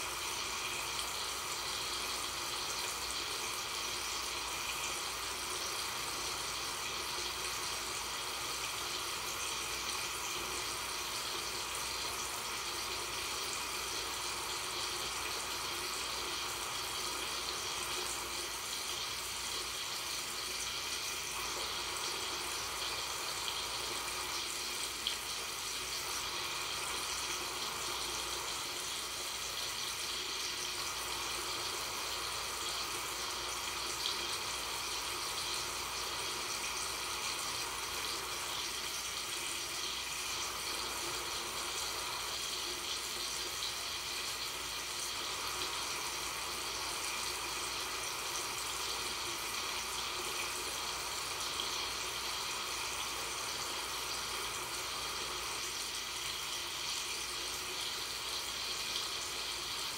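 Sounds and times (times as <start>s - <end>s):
water running from a tap into a sink: 0.0s - 59.9s.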